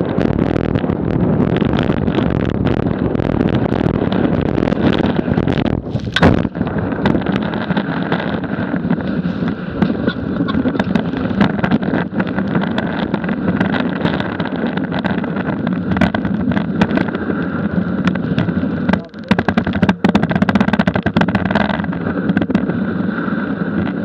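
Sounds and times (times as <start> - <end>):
snowboard scraping over snow: 0.0 - 24.0
wind buffeting microphone: 0.0 - 24.0.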